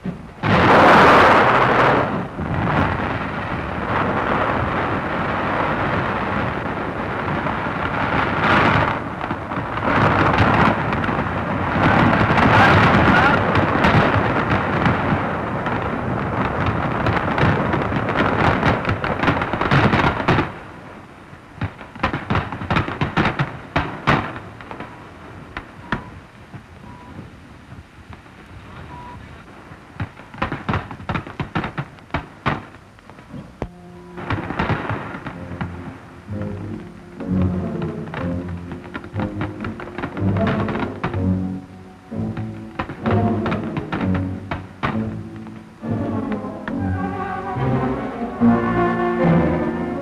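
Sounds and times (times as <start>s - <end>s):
scattered crackles: 0.0s - 50.0s.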